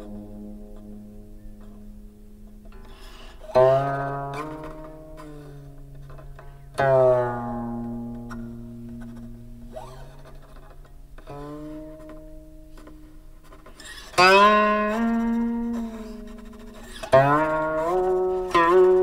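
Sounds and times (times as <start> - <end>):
guqin notes sliding in pitch: 0.0 - 19.0.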